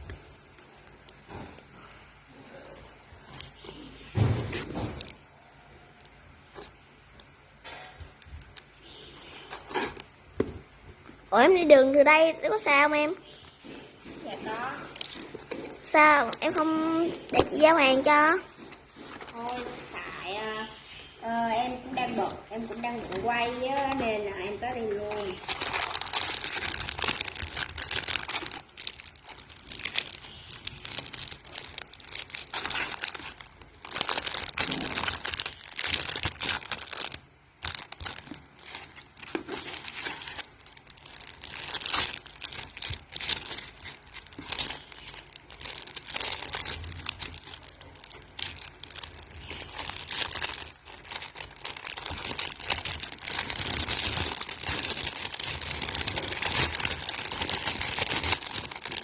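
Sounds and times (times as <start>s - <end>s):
packaging crinkling and tearing: 2.6s - 5.2s, 5.8s - 10.1s, 12.5s - 20.1s, 22.0s - 59.0s.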